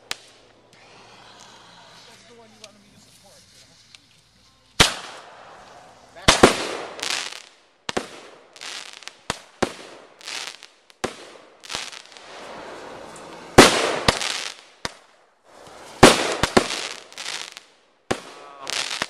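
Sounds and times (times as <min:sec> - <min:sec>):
fireworks banging and hissing: 0:00.0 - 0:19.0.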